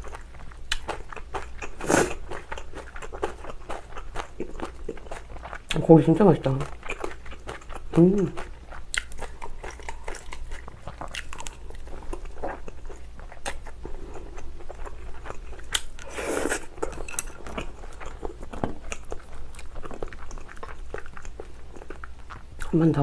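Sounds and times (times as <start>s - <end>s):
wet chewing and mouth smacks: 0.0s - 5.8s, 6.6s - 22.8s.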